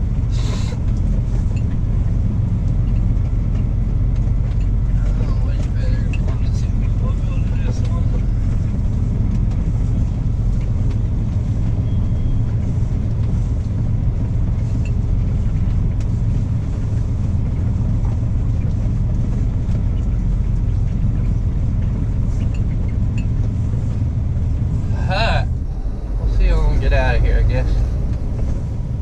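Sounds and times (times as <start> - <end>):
truck diesel engine rumbling: 0.0 - 29.0.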